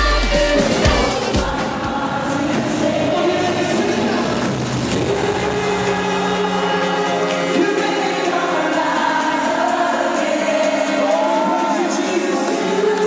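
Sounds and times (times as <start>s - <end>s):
voices singing held notes: 0.0s - 13.0s.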